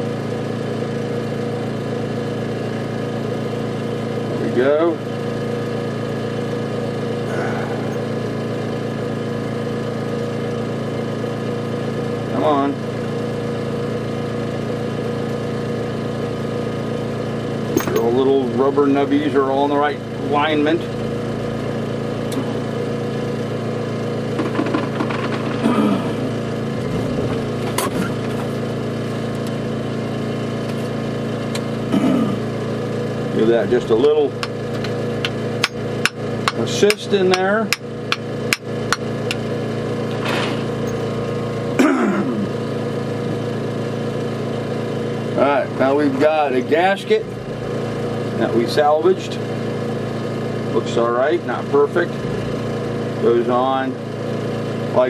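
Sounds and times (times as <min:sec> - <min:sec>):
motor droning: 0:00.0 - 0:55.0.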